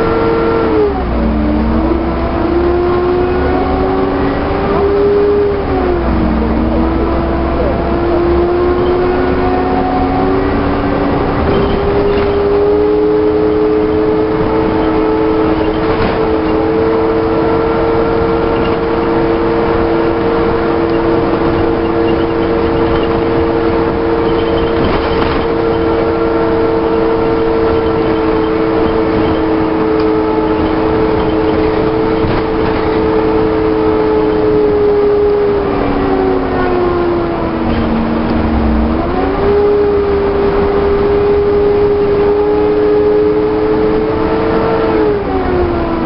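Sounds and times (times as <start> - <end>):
bus drivetrain whine: 0.0 - 46.0
bus engine and road noise: 0.0 - 46.0.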